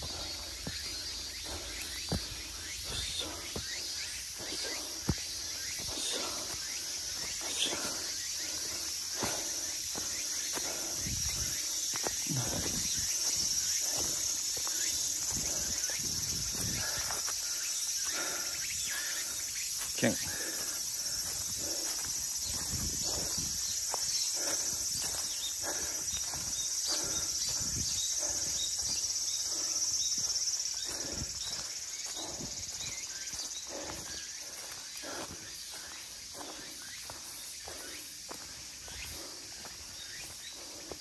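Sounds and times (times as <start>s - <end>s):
footsteps on forest trail: 0.0s - 41.0s
insects chirping: 0.0s - 41.0s.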